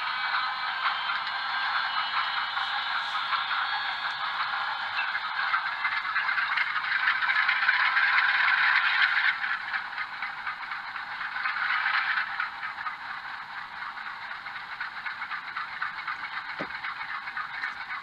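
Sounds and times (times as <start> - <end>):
simulated diesel engine chug: 0.0 - 18.0.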